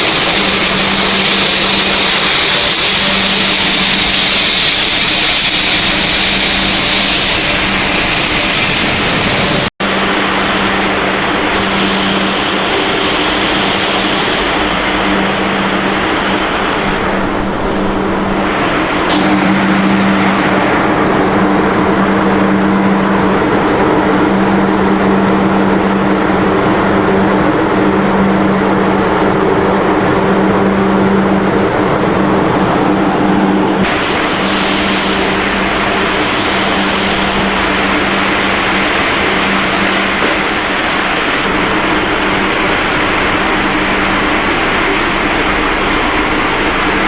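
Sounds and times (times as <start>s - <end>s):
loud mechanical machinery noise: 0.0s - 47.0s.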